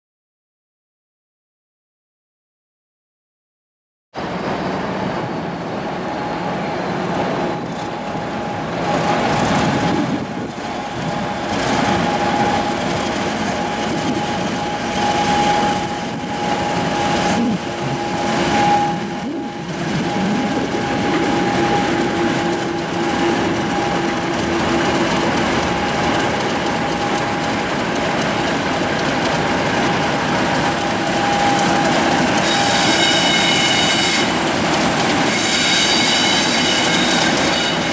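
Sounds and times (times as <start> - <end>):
steady whine: 4.2 - 35.4
diesel locomotives passing: 4.2 - 37.9.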